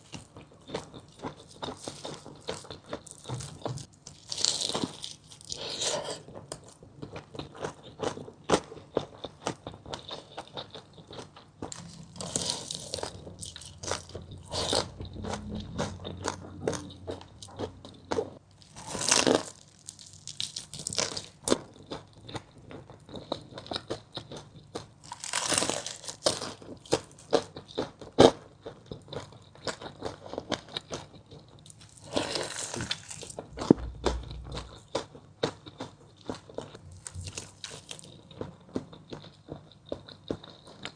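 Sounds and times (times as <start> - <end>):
crunching fried chicken: 0.0 - 40.9.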